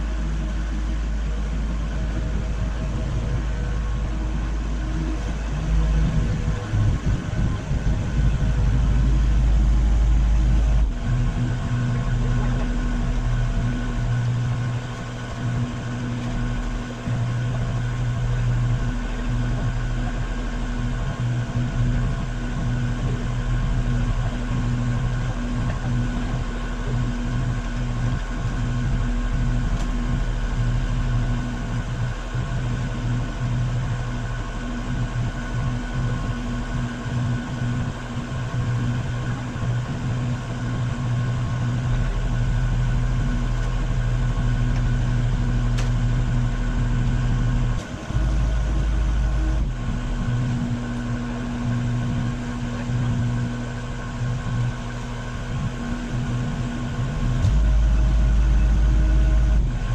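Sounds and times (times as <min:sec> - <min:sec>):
machine engine idling: 0:00.0 - 0:59.9.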